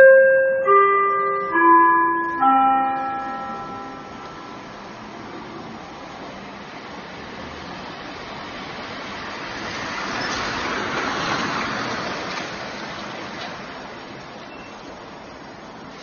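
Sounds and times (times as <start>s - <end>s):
steady traffic noise: 0.0s - 16.0s
vehicle passing: 0.7s - 14.0s.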